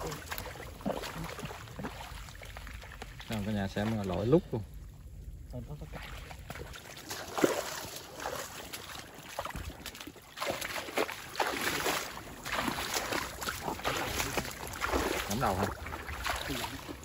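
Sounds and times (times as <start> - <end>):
feet splashing through water: 0.0 - 4.5, 5.8 - 17.0.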